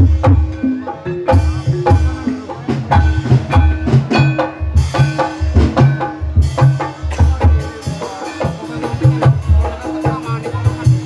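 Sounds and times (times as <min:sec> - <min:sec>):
hand drum strokes: 0:00.0 - 0:11.0.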